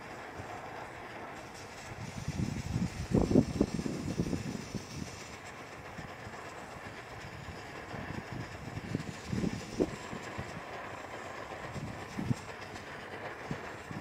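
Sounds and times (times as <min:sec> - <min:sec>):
camp stove burning with hiss: 0:00.0 - 0:14.0.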